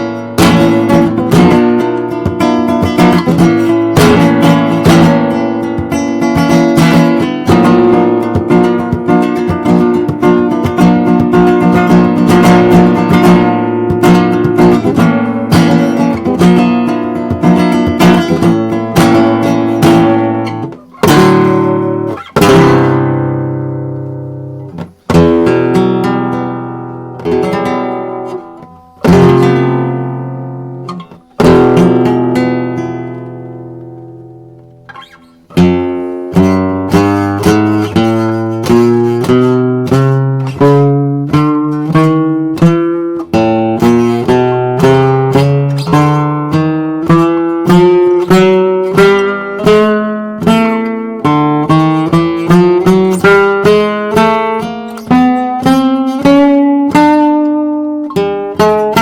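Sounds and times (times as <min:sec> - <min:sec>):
guitar strummed chords: 0:00.0 - 0:59.0.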